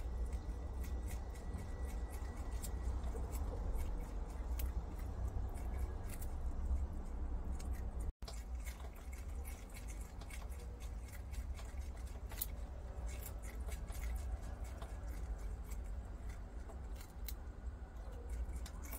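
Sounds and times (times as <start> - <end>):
low steady hum: 0.0 - 18.9
prairie dogs nibbling: 0.0 - 18.9.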